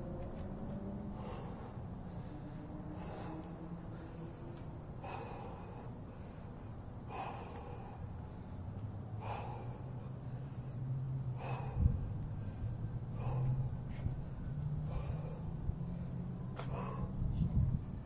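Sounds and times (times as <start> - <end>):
low steady hum: 0.0 - 18.0
man breathing hard: 0.1 - 18.0.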